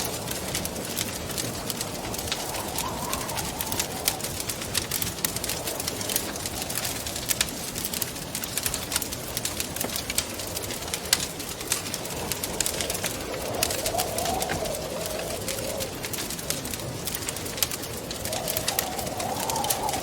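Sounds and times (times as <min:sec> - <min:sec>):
wind rushing and howling: 0:00.0 - 0:20.0
wood fire crackling: 0:00.0 - 0:20.0.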